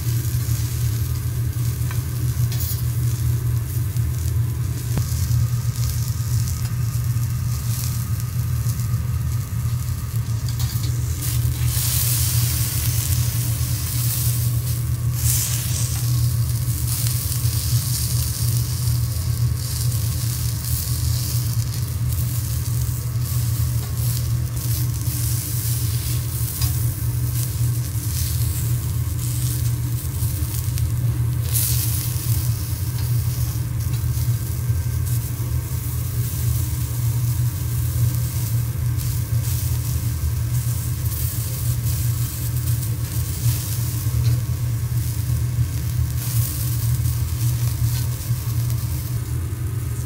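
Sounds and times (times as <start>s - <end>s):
low hum: 0.0s - 39.4s, 40.0s - 50.0s
food sizzling on a griddle: 0.0s - 50.0s.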